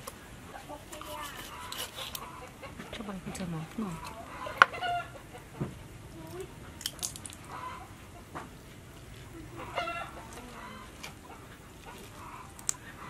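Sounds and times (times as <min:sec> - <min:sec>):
poultry clucking: 0:00.0 - 0:06.8, 0:07.4 - 0:13.0.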